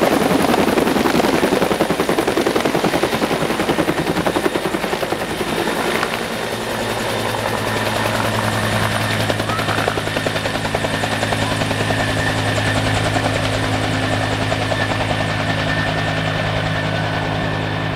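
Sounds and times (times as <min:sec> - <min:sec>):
helicopter rotor blades beating: 0:00.0 - 0:17.9.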